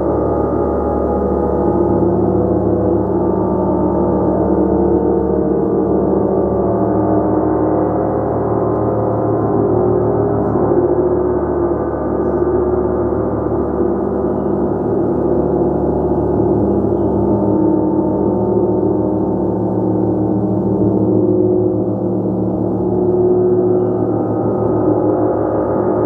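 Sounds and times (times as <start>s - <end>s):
gong shimmering: 0.0s - 26.0s.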